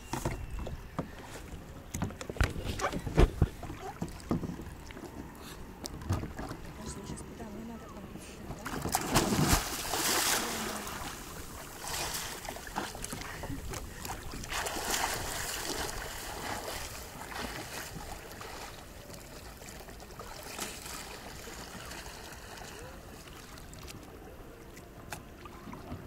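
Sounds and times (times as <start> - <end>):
water splashing around kayak: 0.0 - 6.9, 8.6 - 24.0
water lapping: 0.6 - 26.0.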